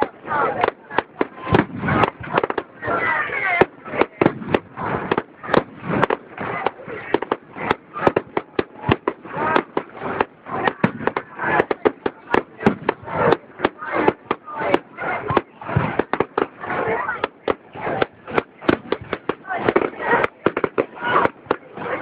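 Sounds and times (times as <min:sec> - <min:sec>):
crowd voices: 0:00.0 - 0:22.0
fireworks bangs and cracks: 0:00.0 - 0:22.0.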